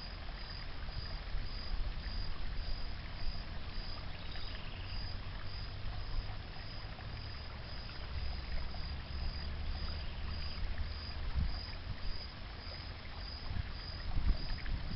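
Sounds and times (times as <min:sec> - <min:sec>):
wind rumbling on microphone: 0:00.5 - 0:07.2, 0:08.0 - 0:12.5, 0:13.3 - 0:14.9.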